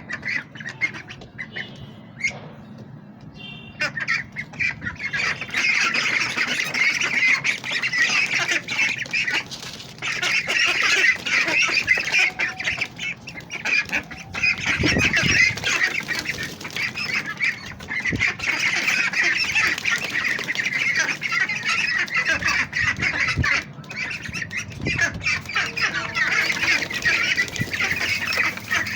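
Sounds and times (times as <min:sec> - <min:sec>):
ducks peeping and quacking: 0:00.0 - 0:28.9.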